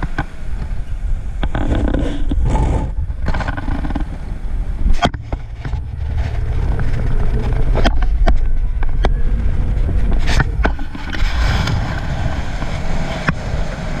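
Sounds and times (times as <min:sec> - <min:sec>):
bus running noise: 0:00.0 - 0:14.0
wind buffeting microphone: 0:00.0 - 0:14.0
sharp knocks and rattles: 0:01.4 - 0:13.4.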